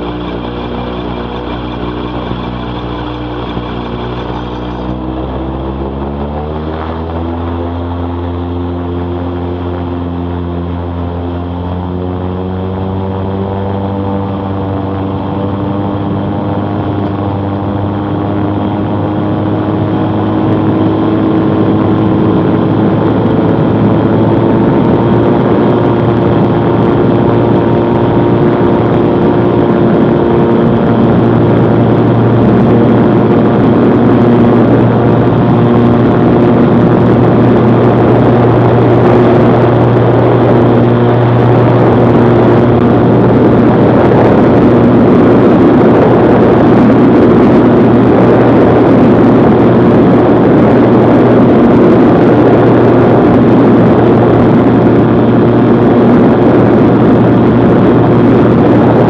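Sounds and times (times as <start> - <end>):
gyrocopter engine and propeller: 0.0 - 59.0.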